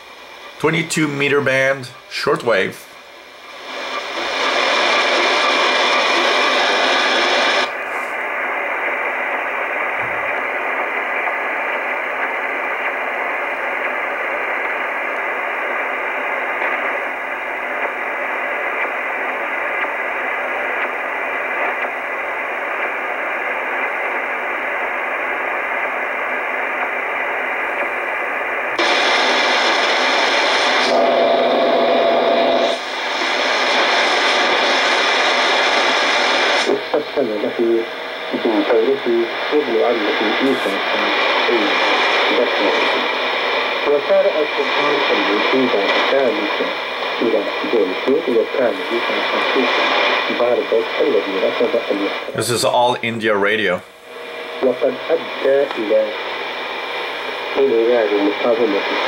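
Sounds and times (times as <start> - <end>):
steady radio whistle: 0.0 - 53.0, 53.8 - 59.0
shortwave radio static hiss: 0.0 - 59.0.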